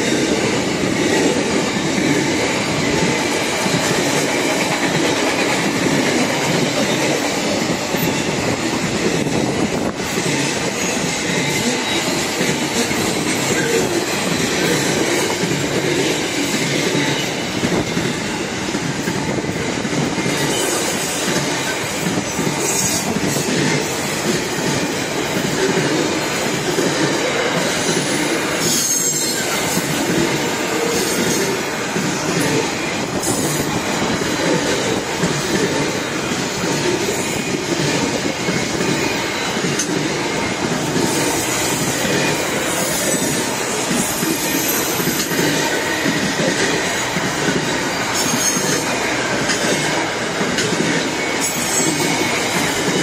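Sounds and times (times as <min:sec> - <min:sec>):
freight train wagons rolling: 0:00.0 - 0:53.0.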